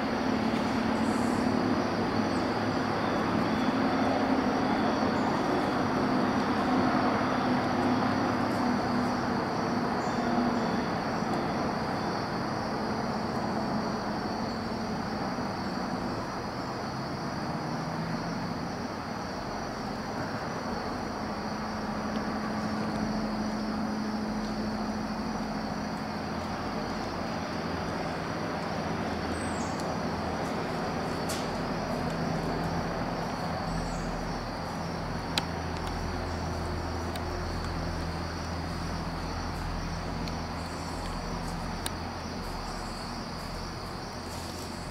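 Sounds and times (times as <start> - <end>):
distant traffic rumble: 0.0 - 44.9
insects chirring: 0.0 - 44.9.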